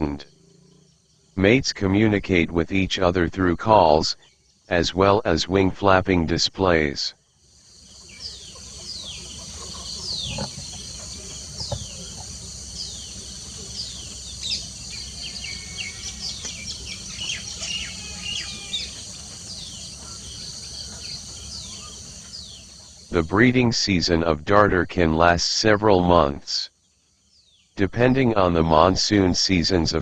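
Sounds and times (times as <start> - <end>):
birds chirping: 0.0 - 30.0
insect drone: 0.0 - 30.0.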